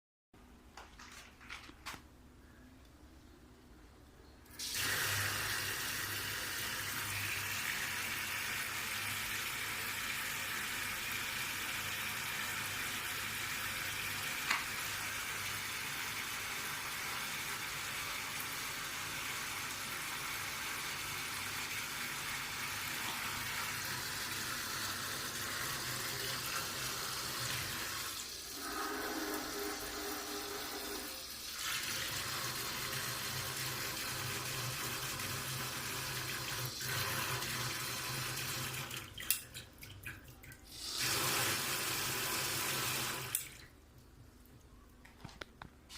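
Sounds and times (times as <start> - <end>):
faucet water running: 4.5 - 43.7.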